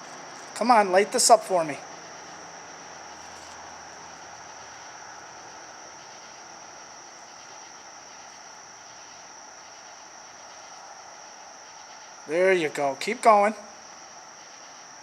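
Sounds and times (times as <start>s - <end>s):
crickets trilling: 0.0s - 15.0s
faint hiss: 0.0s - 15.0s.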